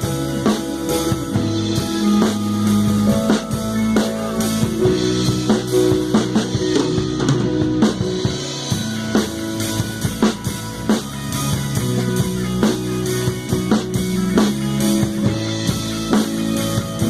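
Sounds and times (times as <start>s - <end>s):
bass guitar: 0.0s - 17.0s
drum kit hits: 0.0s - 17.0s
electric guitar: 0.0s - 17.0s
keyboard: 0.0s - 17.0s.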